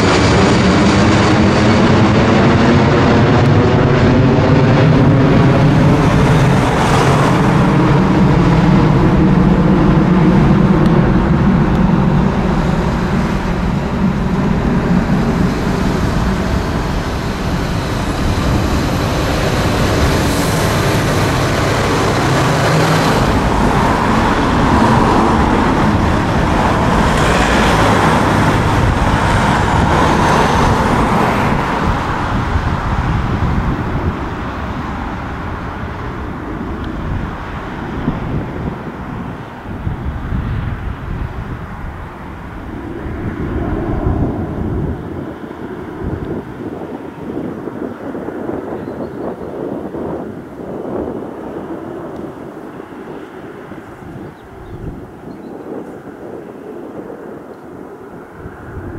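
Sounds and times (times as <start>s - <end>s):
jet engines roaring: 0.0s - 58.9s.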